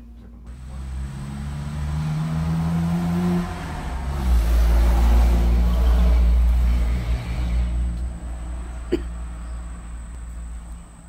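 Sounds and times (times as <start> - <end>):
car engine revving: 0.5 - 11.0.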